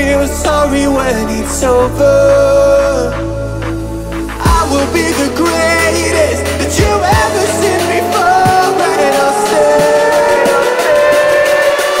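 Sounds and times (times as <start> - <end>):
electronic music: 0.0 - 12.0
falling synth sweep: 1.6 - 12.0.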